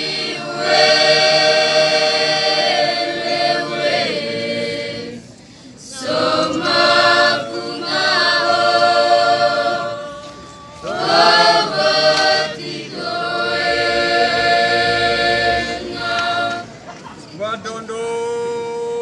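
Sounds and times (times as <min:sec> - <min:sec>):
youth choir singing in parts: 0:00.0 - 0:16.9.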